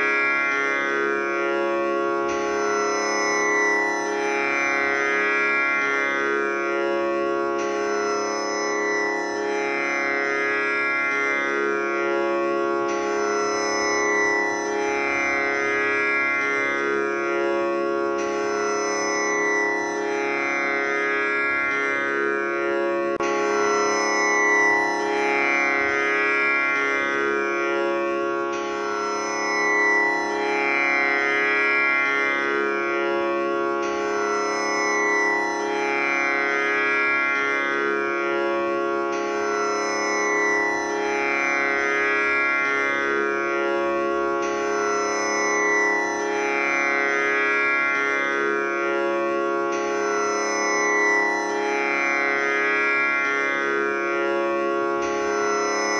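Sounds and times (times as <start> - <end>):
tanpura buzzing drone: 0.0 - 55.9.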